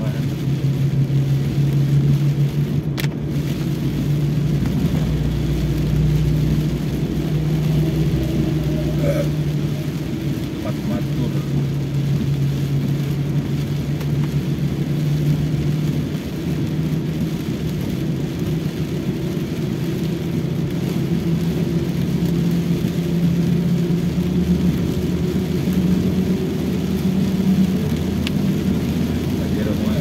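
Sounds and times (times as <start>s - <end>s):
car engine hum: 0.0s - 30.0s
hiss of rain and water: 0.0s - 30.0s
road noise: 0.0s - 30.0s.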